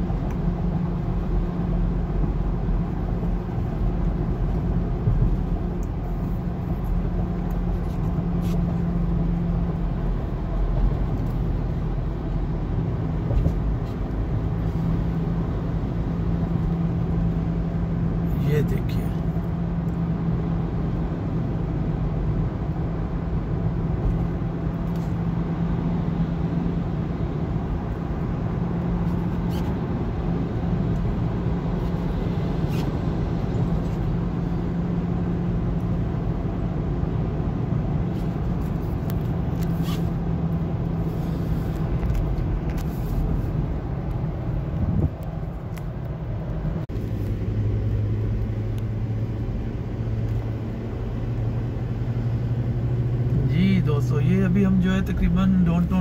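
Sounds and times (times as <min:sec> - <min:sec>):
tyre noise on road: 0:00.0 - 0:53.8
car engine drone inside car: 0:00.0 - 0:56.0.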